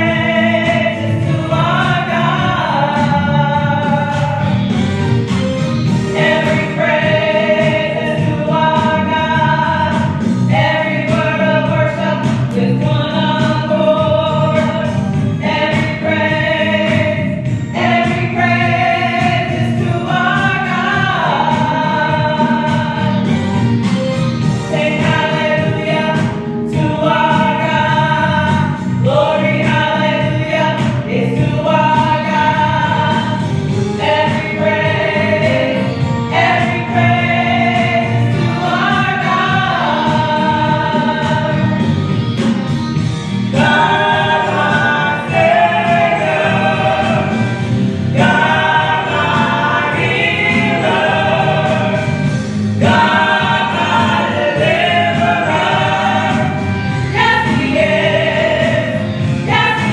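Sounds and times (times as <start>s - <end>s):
gospel choir singing: 0.0s - 59.9s
instrumental accompaniment: 0.0s - 59.9s.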